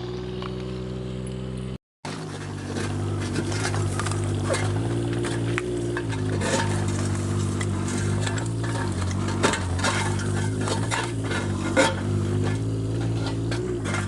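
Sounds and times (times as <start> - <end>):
diesel engine running: 0.0 - 14.0
rubble knocking and scraping: 2.0 - 14.0.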